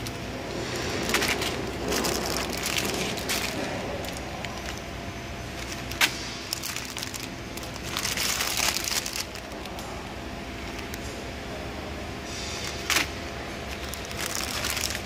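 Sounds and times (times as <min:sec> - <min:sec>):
dry noodles rustling: 0:00.0 - 0:11.0, 0:12.2 - 0:15.0
plastic film crinkling: 0:00.0 - 0:11.0, 0:12.4 - 0:15.0
steady low hum: 0:00.0 - 0:15.0.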